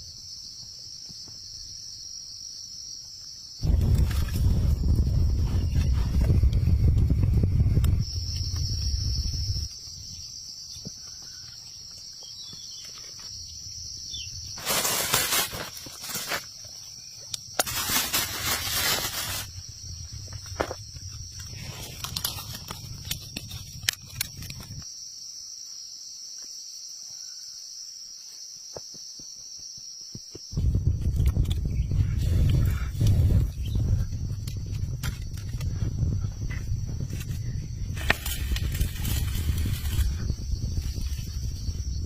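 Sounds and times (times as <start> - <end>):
insects trilling: 0.0 - 42.0.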